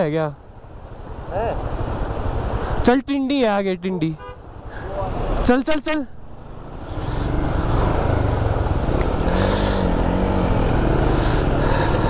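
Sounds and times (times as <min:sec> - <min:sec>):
rushing water: 0:00.5 - 0:12.0.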